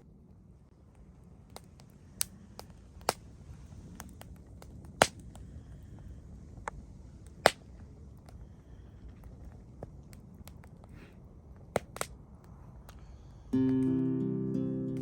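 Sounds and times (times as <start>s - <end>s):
wood fire crackling and popping: 0.2s - 15.0s.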